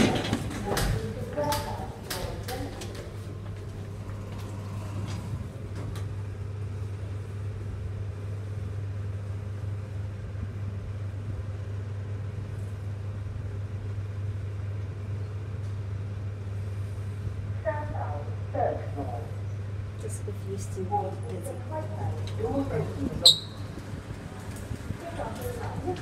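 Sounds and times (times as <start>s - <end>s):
elevator hum and rushing: 0.0s - 26.0s.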